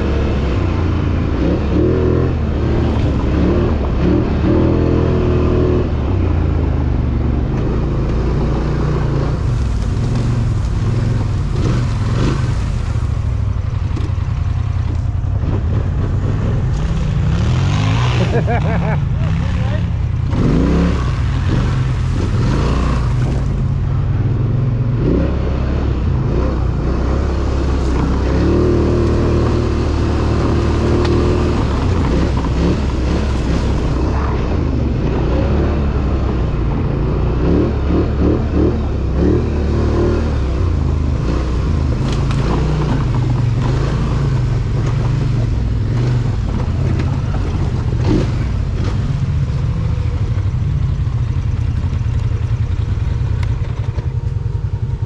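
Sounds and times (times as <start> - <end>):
atv engine running: 0.0 - 55.0
knocks and rattles over rough ground: 2.2 - 24.6, 26.1 - 38.6, 39.9 - 55.0.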